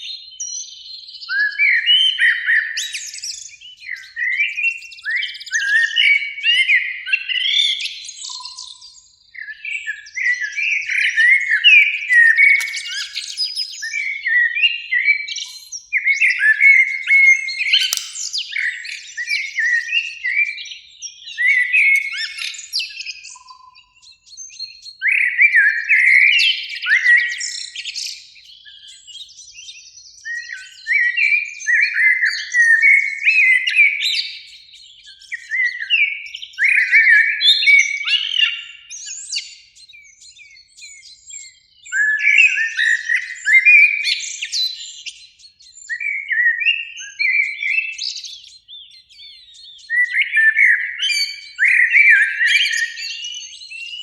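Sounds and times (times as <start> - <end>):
blackbird singing fluty phrases: 0.0 - 54.0.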